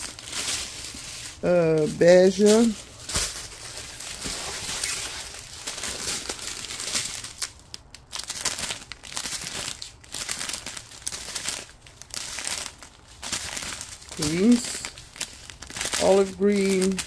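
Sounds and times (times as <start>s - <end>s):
plastic zip bags crinkling: 0.0s - 17.0s.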